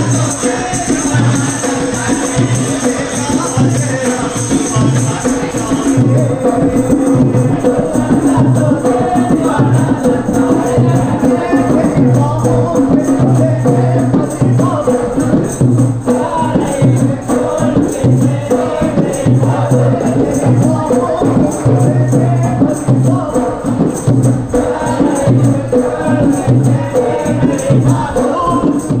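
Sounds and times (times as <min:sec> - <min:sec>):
group of men chanting: 0:00.0 - 0:29.0
large hand drums beating: 0:00.0 - 0:29.0.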